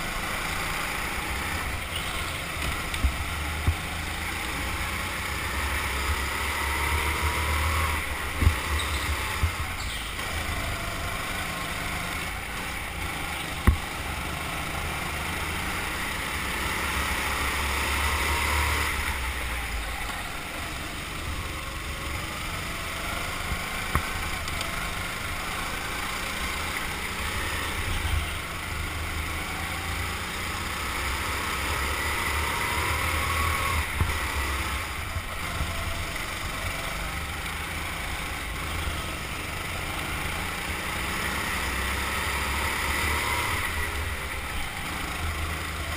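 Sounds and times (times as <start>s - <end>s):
go-kart engine revving: 0.0s - 45.9s
other kart engines: 0.0s - 45.9s.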